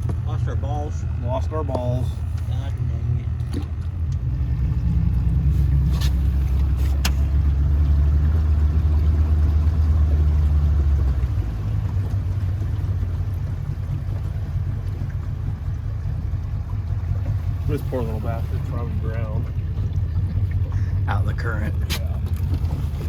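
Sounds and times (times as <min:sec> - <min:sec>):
boat motor rumbling: 0:00.0 - 0:23.0.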